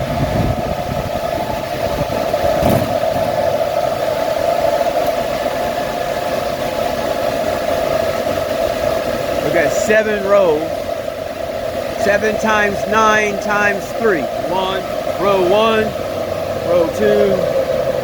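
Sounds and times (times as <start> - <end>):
cooling fans droning: 0.0 - 18.0.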